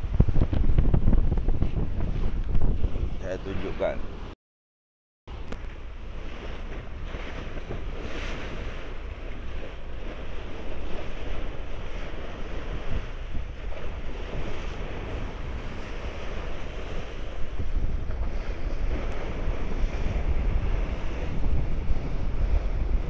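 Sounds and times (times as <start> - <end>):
wind buffeting microphone: 0.0 - 4.3, 5.3 - 23.0
seawater rushing and splashing: 0.0 - 4.4, 5.3 - 23.0.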